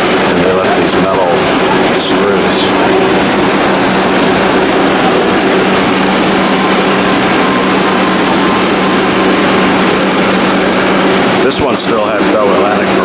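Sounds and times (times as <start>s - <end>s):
constant low hum: 0.0s - 13.0s
subway train rumble: 0.0s - 13.0s.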